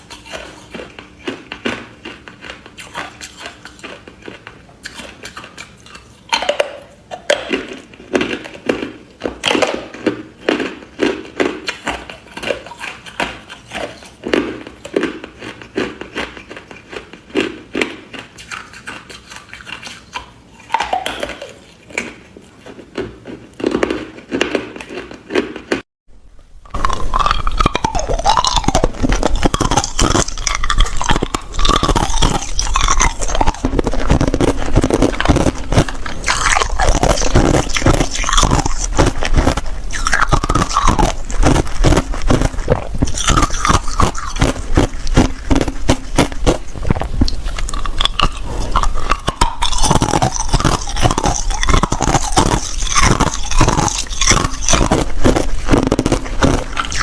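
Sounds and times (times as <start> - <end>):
ice being chewed: 0.0 - 25.8, 26.4 - 57.0.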